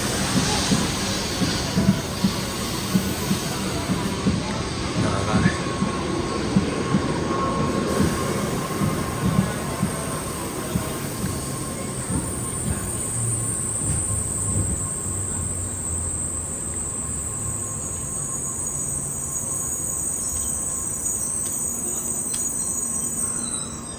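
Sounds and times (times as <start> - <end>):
high-pitched train whine: 0.0 - 23.9
train rumbling on track: 0.0 - 23.9.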